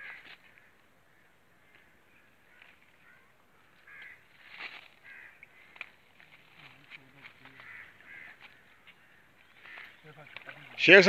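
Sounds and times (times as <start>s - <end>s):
faint bird calls: 0.0s - 10.8s.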